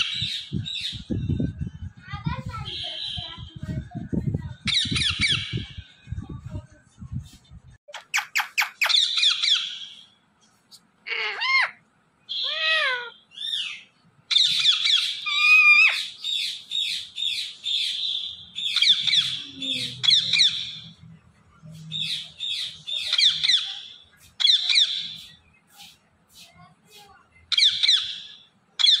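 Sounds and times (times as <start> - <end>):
parakeet calling and chirping: 0.0 - 6.0, 7.9 - 10.2, 11.0 - 21.0, 21.7 - 29.0.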